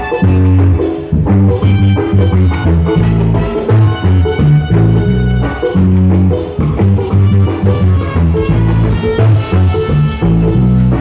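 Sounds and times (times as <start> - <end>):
electric bass line: 0.0 - 11.0
reggae band playing live: 0.0 - 11.0.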